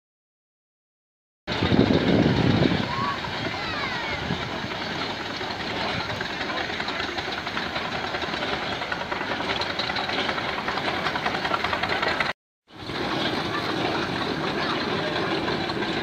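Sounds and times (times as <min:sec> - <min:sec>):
steam roller mechanical clatter: 0:01.5 - 0:16.0.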